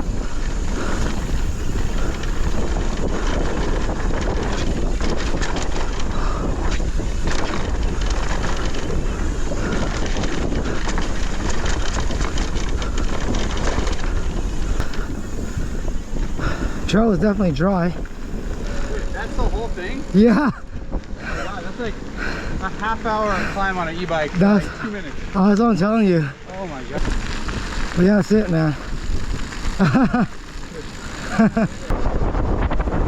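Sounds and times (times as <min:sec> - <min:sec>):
bike clicks and rattles: 0:00.0 - 0:33.0
wind buffeting microphone: 0:00.0 - 0:33.0.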